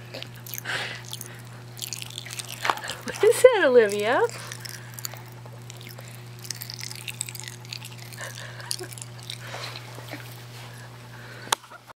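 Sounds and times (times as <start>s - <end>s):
steady low hum: 0.0s - 11.9s
popping candy crackling: 0.2s - 9.9s.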